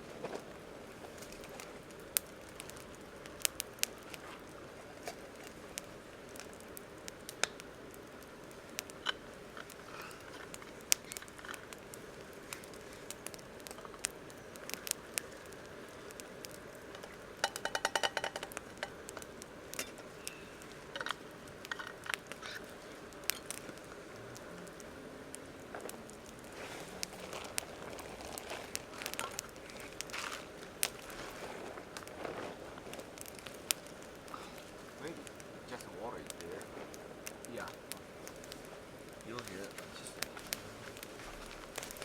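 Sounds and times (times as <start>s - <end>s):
campfire crackling: 0.0s - 42.0s
steady background noise: 0.0s - 42.0s.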